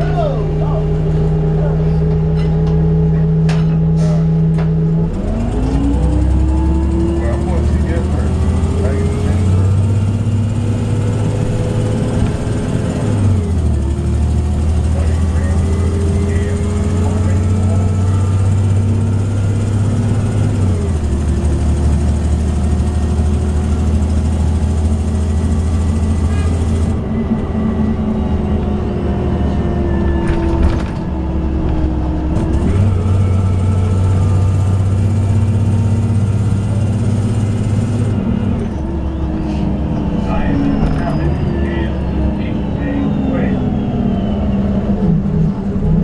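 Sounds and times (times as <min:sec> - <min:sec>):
bus engine drone: 0:00.0 - 0:46.0.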